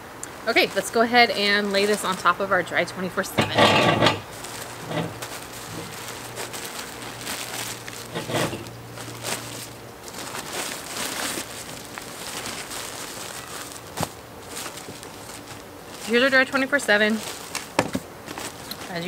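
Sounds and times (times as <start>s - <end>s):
plastic diaper rustling: 0.5s - 2.4s, 3.8s - 19.0s.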